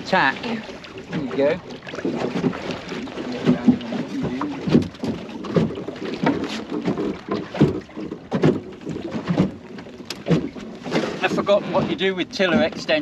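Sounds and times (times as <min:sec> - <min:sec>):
water wash: 0:00.0 - 0:13.0
waves slapping against hull: 0:00.0 - 0:13.0
wind: 0:00.0 - 0:13.0.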